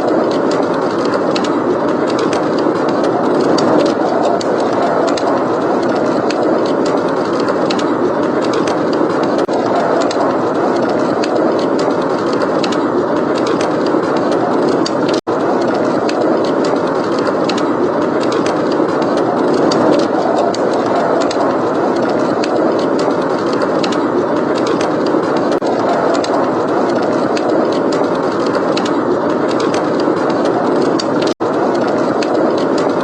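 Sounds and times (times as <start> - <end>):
fireplace crackling: 0.0 - 32.9
blizzard wind blowing: 0.0 - 33.0.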